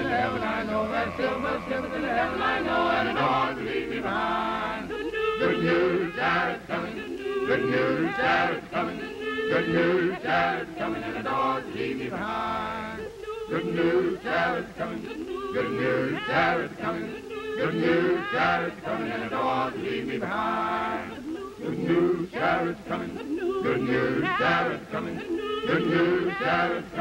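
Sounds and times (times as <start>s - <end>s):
choir singing unaccompanied: 0.0s - 27.0s.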